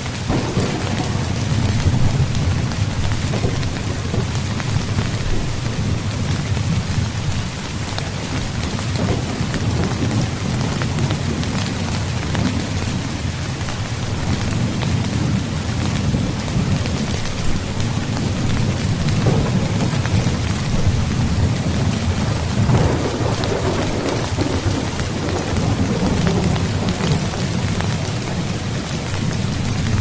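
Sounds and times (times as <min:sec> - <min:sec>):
rain drops ticking: 0:00.0 - 0:30.0
rain falling on a tent: 0:00.0 - 0:30.0
low rumble of thunder: 0:00.2 - 0:30.0.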